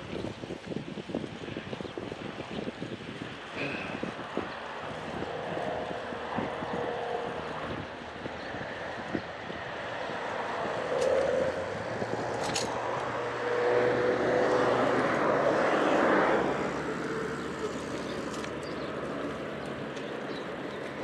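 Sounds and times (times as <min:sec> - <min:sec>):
road noise hum: 0:00.0 - 0:21.0
vehicle passing: 0:03.6 - 0:21.0.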